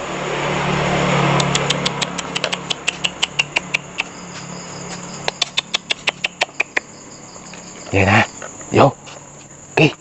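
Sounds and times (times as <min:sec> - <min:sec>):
crickets chirping: 0:00.0 - 0:10.0
vehicle engine hum passing: 0:00.0 - 0:10.0.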